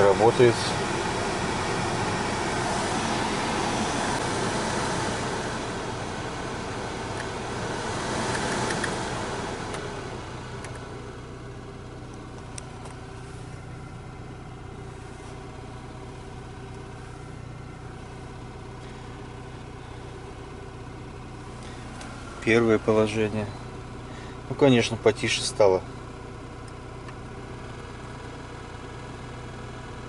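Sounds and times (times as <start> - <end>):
blower fan rushing air: 0.0 - 26.0.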